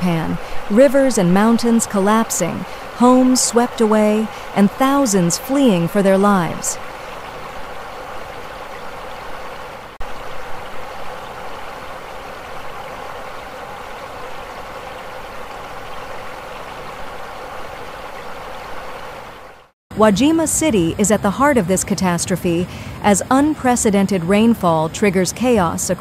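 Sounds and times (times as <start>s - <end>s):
floodwater rushing: 0.0s - 21.6s.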